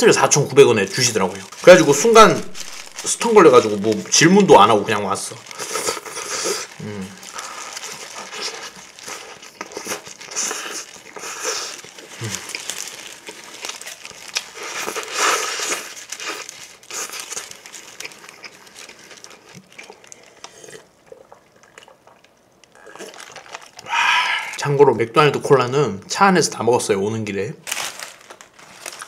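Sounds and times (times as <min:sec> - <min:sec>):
paper wrapper crinkling: 0:00.0 - 0:20.6, 0:22.6 - 0:24.8, 0:27.6 - 0:29.0.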